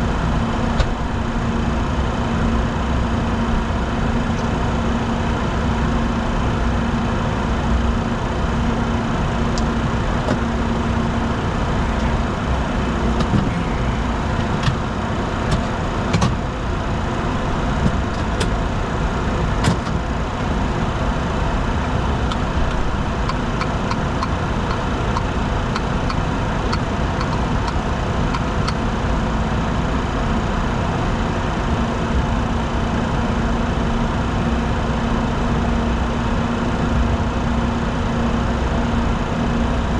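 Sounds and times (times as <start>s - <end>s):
jet air and engine noise: 0.0s - 33.4s.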